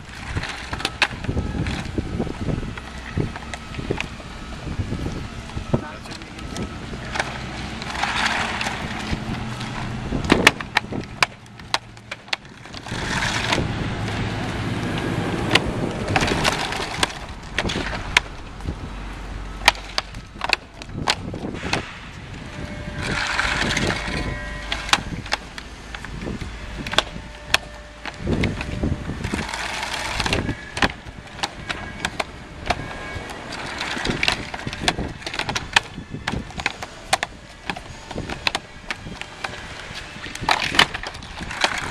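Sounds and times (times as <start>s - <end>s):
plastic panels clacking: 0.0s - 14.2s, 14.8s - 18.8s, 19.5s - 41.9s
panels scraping on pavement: 0.0s - 41.9s.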